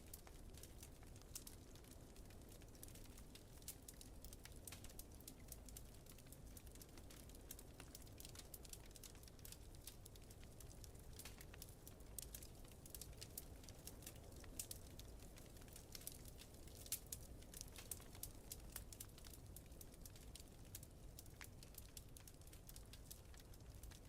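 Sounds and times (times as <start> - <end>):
faint wood fire crackling: 0.0 - 24.0.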